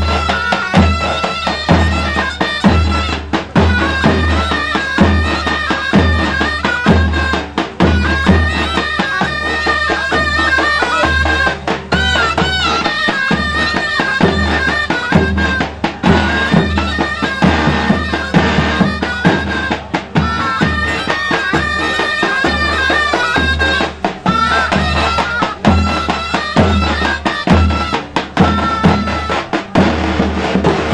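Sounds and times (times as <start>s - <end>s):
shrill zurna melody: 0.0s - 30.3s.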